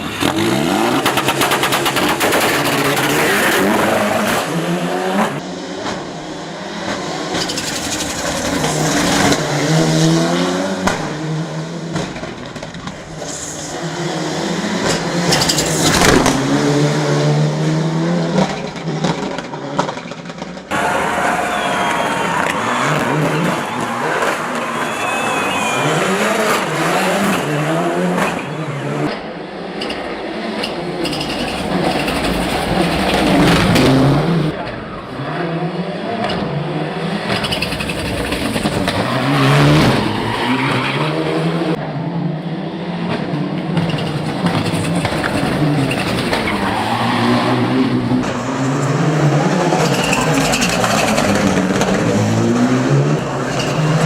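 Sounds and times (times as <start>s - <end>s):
race car engine accelerating: 0.0s - 20.0s, 20.7s - 54.0s.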